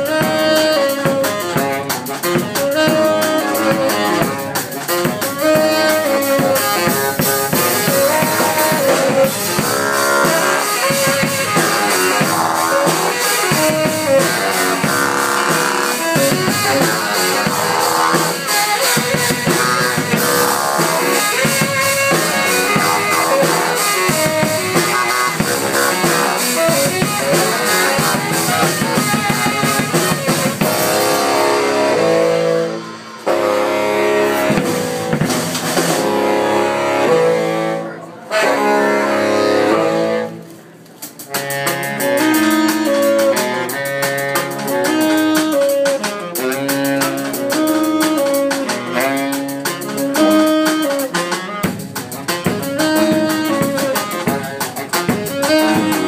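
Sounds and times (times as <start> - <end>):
saxophone riffs: 0.0 - 40.5, 41.2 - 56.0
drum kit playing: 0.0 - 56.0.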